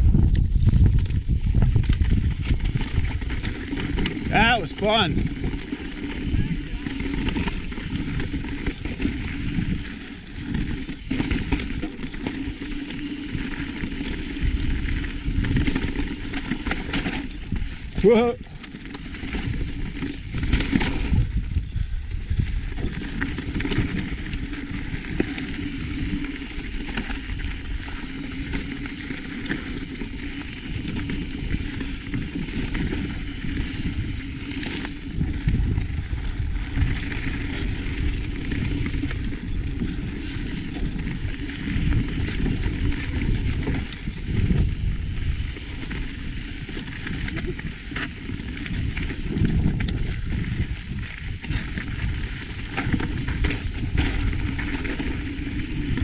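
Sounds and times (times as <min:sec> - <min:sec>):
bike rattling: 0:00.0 - 0:56.0
bike tyres crunching over stones: 0:00.0 - 0:56.0
wind rumble on microphone: 0:00.0 - 0:56.0.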